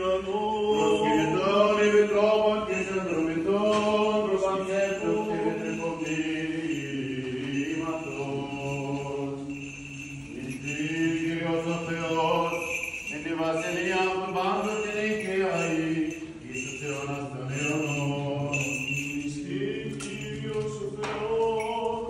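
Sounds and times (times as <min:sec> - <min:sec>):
men chanting slow melody: 0:00.0 - 0:22.0.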